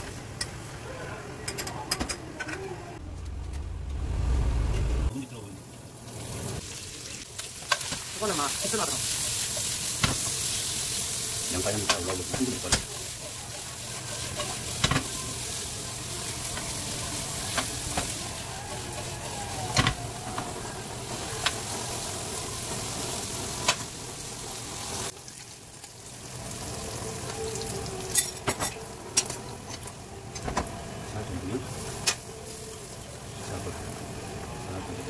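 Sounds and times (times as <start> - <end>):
food sizzling in frying pan: 5.6 - 35.0.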